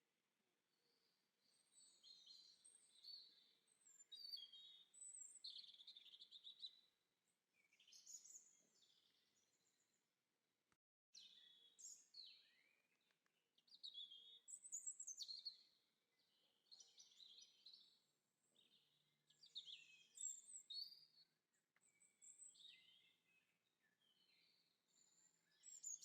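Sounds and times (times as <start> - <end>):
small birds chirping: 0.8 - 6.9, 7.6 - 9.8, 11.2 - 26.0.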